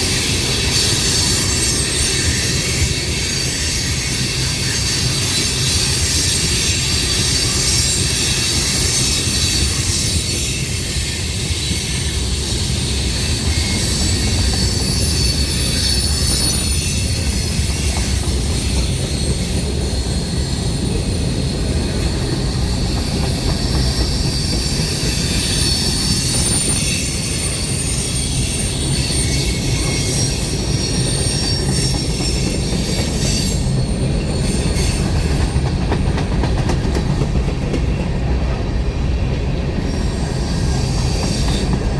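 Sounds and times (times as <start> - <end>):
high wheel squeal: 0.0 - 37.4, 39.8 - 41.9
train wheels rumbling on rail: 0.0 - 41.9.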